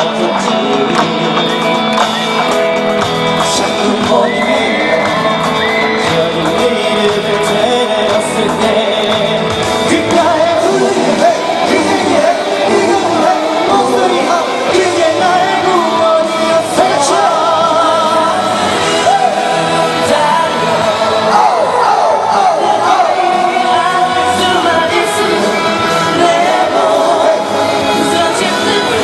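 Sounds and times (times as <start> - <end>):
loud amplified backing music: 0.0 - 29.0
person singing with vibrato: 3.2 - 29.0.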